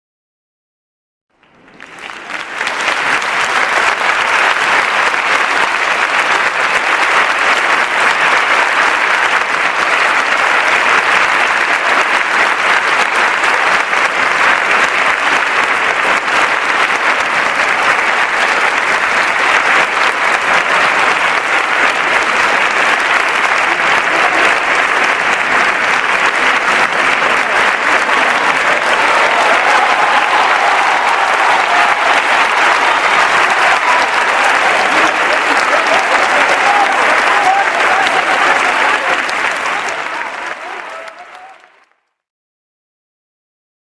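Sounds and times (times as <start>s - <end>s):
large audience clapping: 1.3s - 42.2s.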